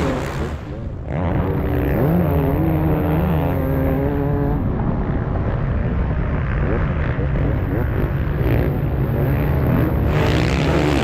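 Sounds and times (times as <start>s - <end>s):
motorcycle engine running hard: 0.0s - 11.0s.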